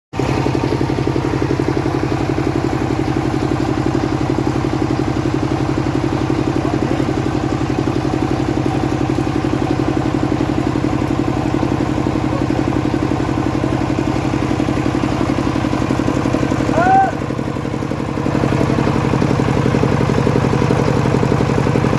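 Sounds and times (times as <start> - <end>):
sawmill engine running: 0.2 - 21.9.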